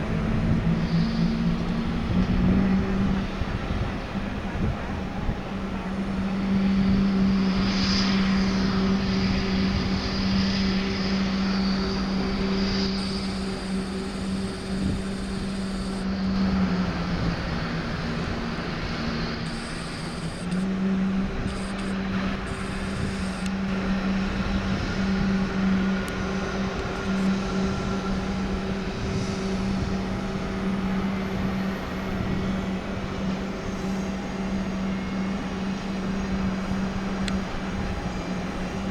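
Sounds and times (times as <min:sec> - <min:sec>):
jet engines humming: 0:00.0 - 0:38.9.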